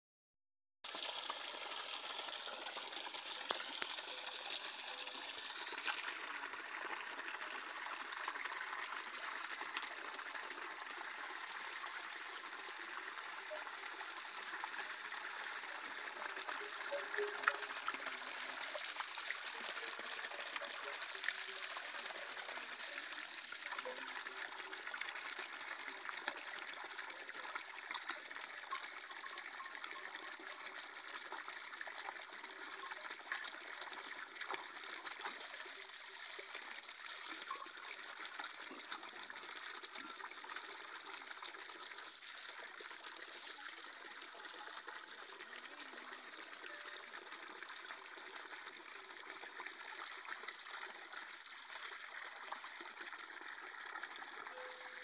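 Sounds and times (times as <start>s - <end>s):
water trickling and splashing: 0.8s - 55.0s.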